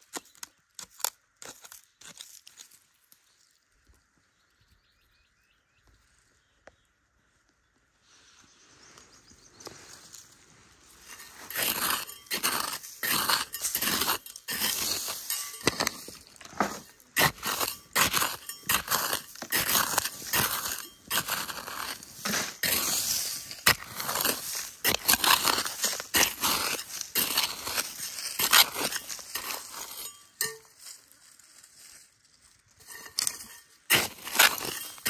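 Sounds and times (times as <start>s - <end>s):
trowel scraping gravelly soil: 0.0s - 3.6s, 8.0s - 35.0s.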